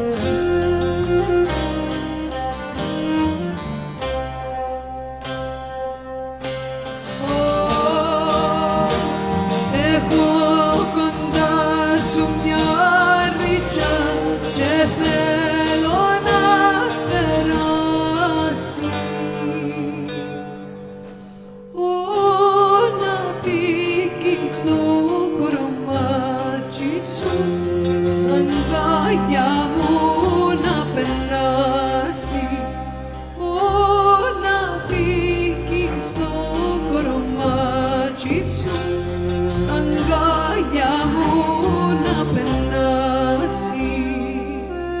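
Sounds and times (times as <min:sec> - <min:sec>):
folk string ensemble: 0:00.0 - 0:45.0
woman singing: 0:07.0 - 0:20.6, 0:21.7 - 0:45.0.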